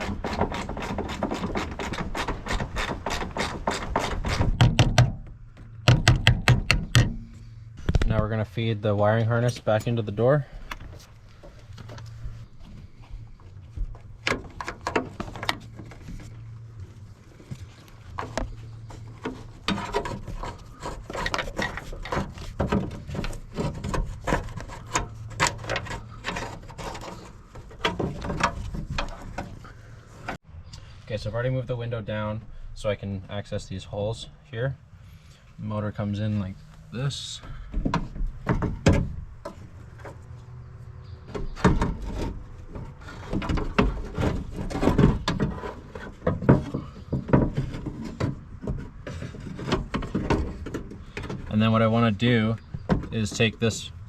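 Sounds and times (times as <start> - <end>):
parts rubbing and scraping in car door: 0.0 - 30.4, 35.0 - 54.0.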